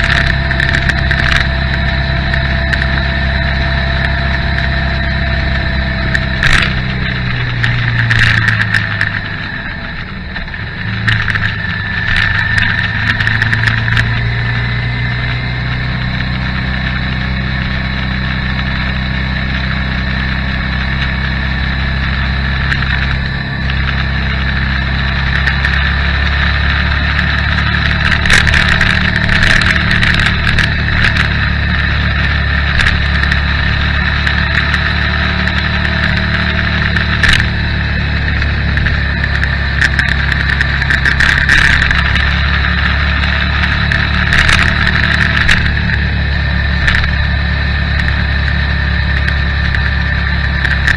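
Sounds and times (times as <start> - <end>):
small clicks and rattles: 0.0 - 14.6, 21.8 - 50.9
motorcycle engine drone: 0.0 - 50.9
wind and road noise: 0.0 - 50.9.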